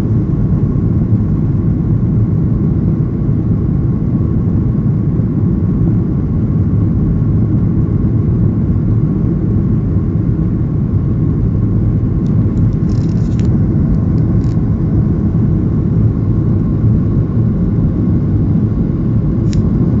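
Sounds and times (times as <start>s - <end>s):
aircraft engines and airflow rumble: 0.0s - 20.0s
faint steady hum: 0.0s - 20.0s.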